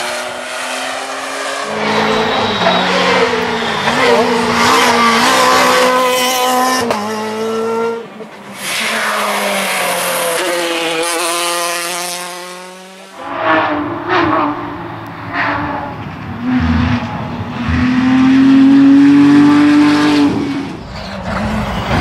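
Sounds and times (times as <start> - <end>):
rally car engines at full throttle: 0.0 - 22.0.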